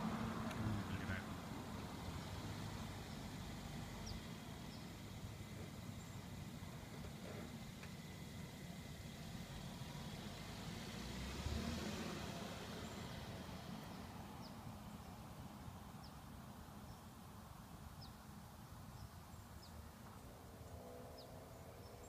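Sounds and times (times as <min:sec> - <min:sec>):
car driving away: 0:00.0 - 0:15.8, 0:20.1 - 0:22.0.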